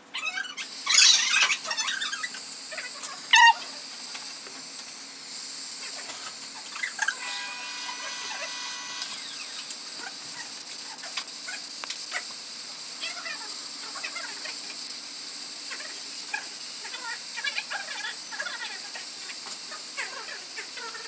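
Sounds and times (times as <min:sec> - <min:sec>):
gas torch flame hissing: 0:00.6 - 0:19.8.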